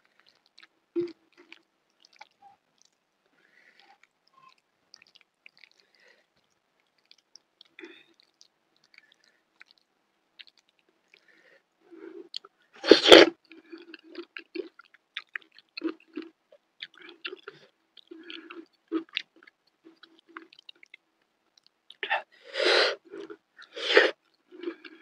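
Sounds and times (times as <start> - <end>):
person chewing: 0.0 - 22.1, 22.9 - 25.0.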